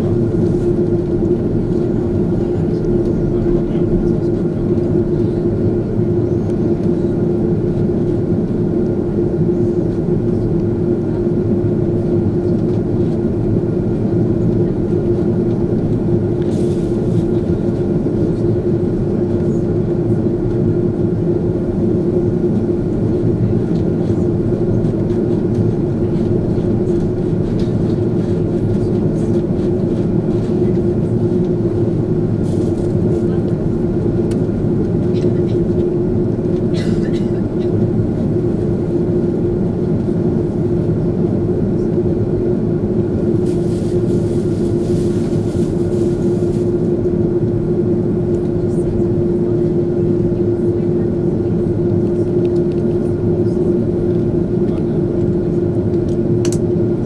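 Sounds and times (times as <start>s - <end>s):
constant cabin hum: 0.0s - 57.0s
jet engines rumbling: 0.0s - 57.0s.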